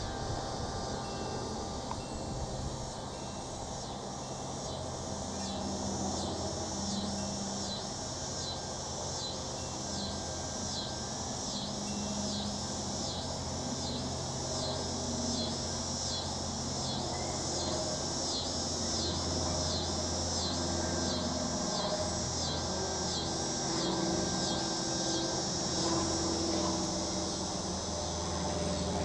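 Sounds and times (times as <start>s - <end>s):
high-pitched insect calls: 0.0s - 29.0s
propeller plane droning overhead: 0.0s - 29.0s.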